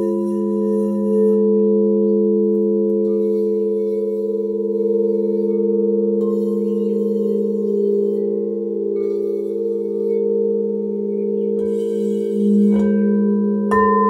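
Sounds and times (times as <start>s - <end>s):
crystal singing bowls ringing: 0.0s - 14.0s.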